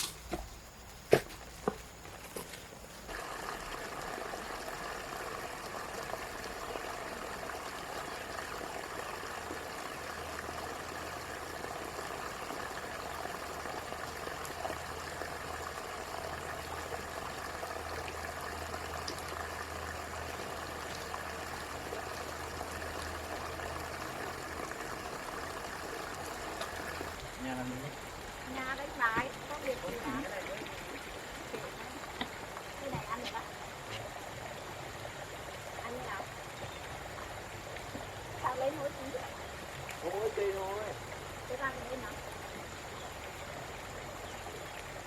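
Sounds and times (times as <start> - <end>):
water rushing: 1.9 - 45.0.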